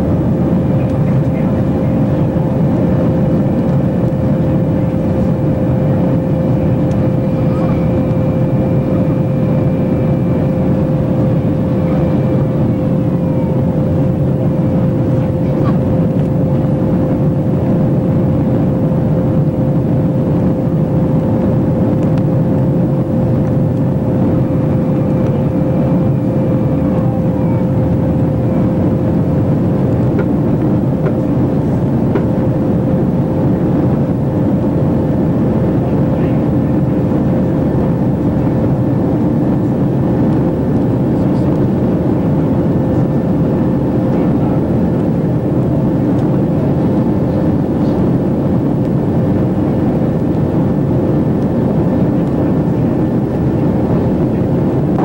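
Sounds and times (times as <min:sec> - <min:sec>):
airliner cabin engine noise: 0:00.0 - 0:55.0
constant tone: 0:00.0 - 0:55.0.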